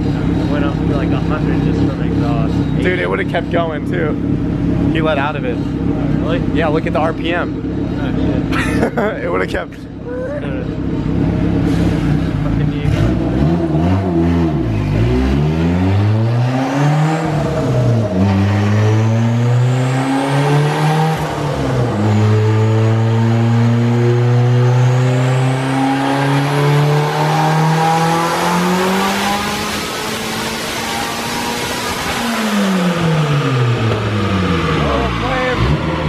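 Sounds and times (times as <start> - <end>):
turbocharged car engine revving: 0.0 - 36.0.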